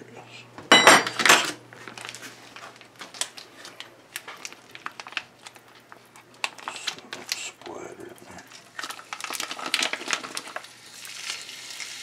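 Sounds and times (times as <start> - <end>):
plastic film wrap crinkling: 1.7 - 12.0.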